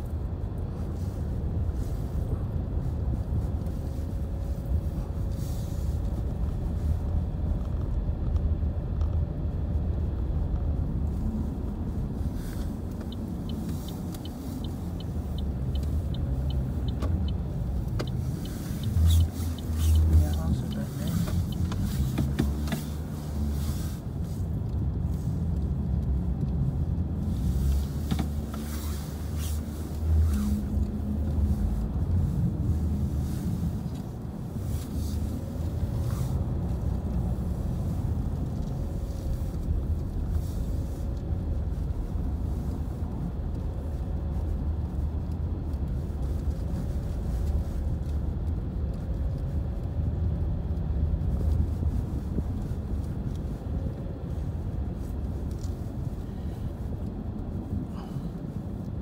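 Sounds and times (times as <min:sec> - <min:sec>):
engine and tyres rumbling: 0:00.0 - 0:59.0.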